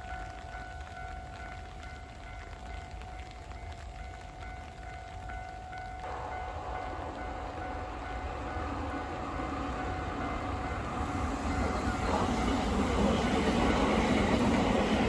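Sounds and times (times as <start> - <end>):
train passing: 0.0 - 15.0.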